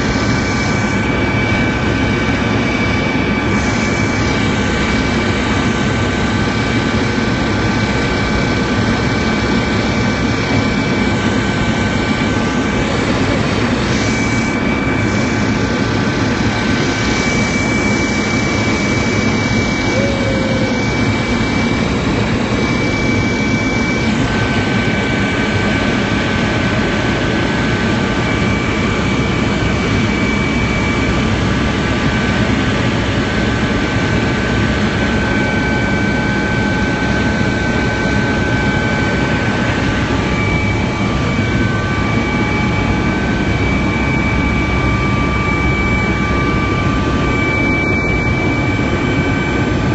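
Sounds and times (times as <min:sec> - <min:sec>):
helicopter engine and rotor noise: 0:00.0 - 0:49.9
high-pitched whine: 0:00.0 - 0:49.9.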